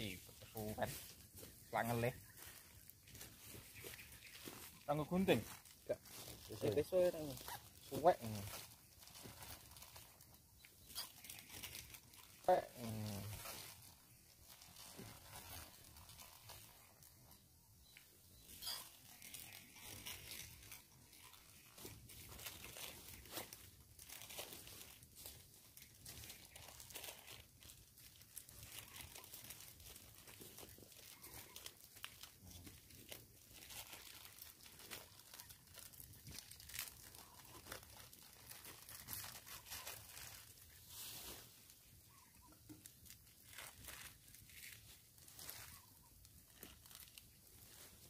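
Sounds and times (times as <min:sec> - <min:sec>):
faint crackling and rustling: 0:00.0 - 0:48.0.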